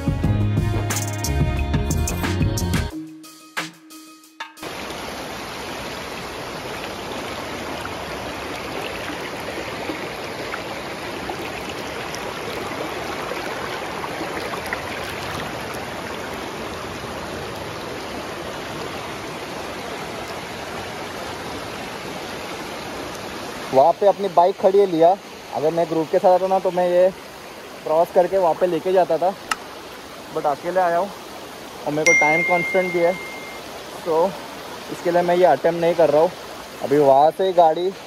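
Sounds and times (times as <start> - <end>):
stream water rushing: 4.6 - 38.0.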